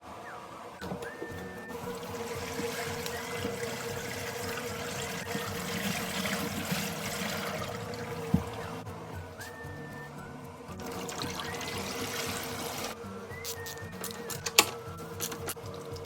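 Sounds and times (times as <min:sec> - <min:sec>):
water trickling in washing machine: 0:00.8 - 0:08.9, 0:10.7 - 0:16.0.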